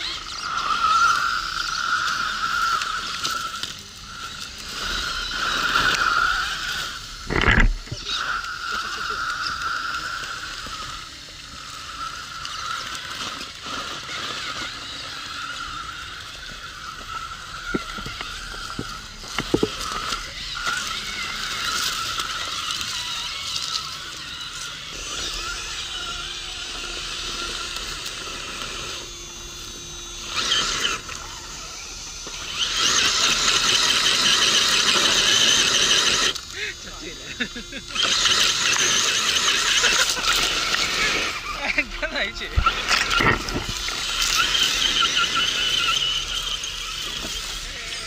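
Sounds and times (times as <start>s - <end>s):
electric motor whining: 0.0s - 48.0s.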